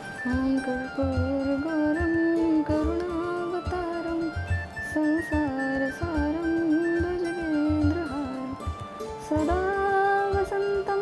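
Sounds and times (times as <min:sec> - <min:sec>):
devotional music melody: 0:00.0 - 0:11.0.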